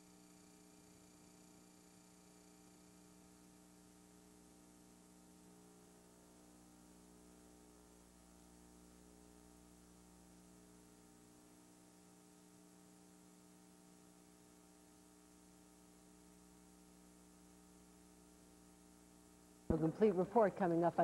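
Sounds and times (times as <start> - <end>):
faint mains hum: 0.0 - 21.0.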